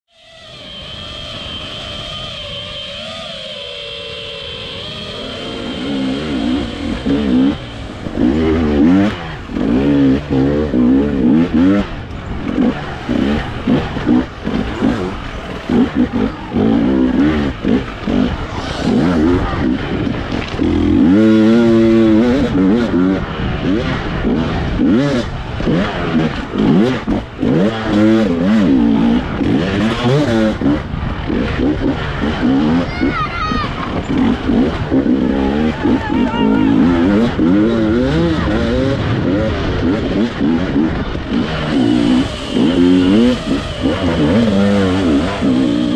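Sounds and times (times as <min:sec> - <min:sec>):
dirt bike engine revving: 0:00.2 - 0:45.9.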